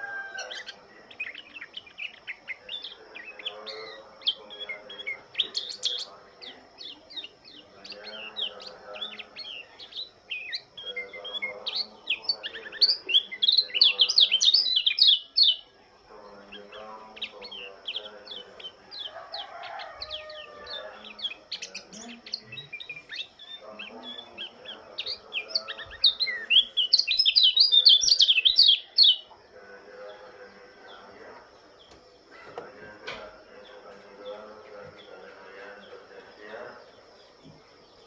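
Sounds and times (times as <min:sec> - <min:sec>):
bird twittering chirps: 0:00.0 - 0:38.0.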